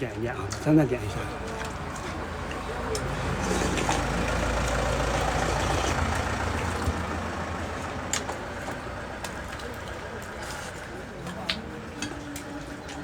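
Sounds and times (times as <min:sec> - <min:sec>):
heavy vehicle engine rumbling: 0:00.0 - 0:12.9.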